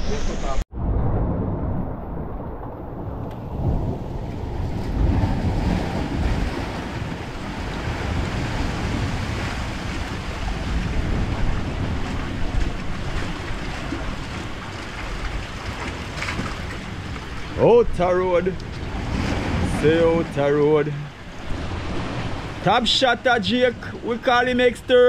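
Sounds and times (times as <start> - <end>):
wind buffeting microphone: 0.0 - 22.7
ocean waves breaking: 0.0 - 25.0.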